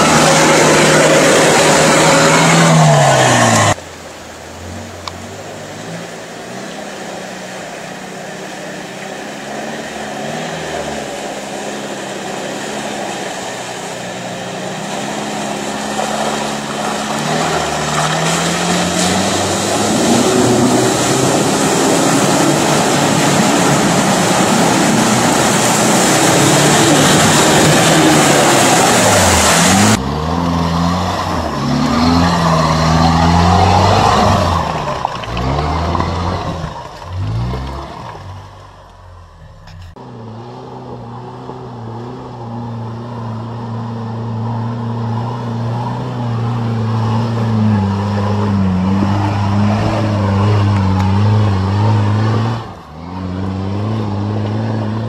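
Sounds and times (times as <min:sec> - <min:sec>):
mud and water splashing: 0:00.0 - 0:55.0
off-road engine revving: 0:00.0 - 0:55.0.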